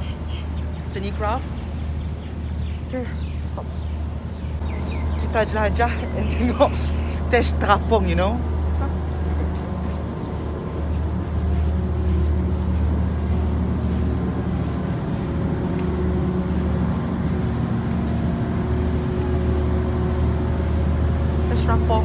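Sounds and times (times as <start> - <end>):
faint constant hum: 0.0 - 22.0
low rumble: 1.5 - 22.0.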